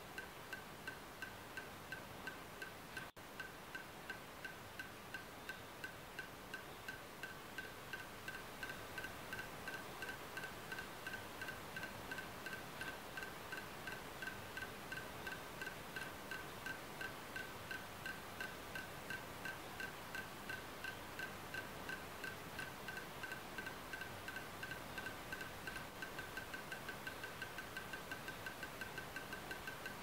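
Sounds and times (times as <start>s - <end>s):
faint hiss: 0.0s - 30.0s.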